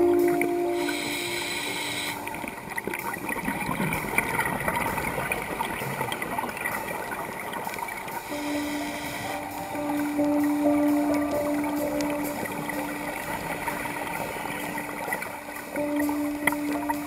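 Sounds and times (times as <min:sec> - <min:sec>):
crackles: 0:00.0 - 0:17.0
steady musical tone: 0:00.0 - 0:17.0
underwater gurgling: 0:00.0 - 0:17.0.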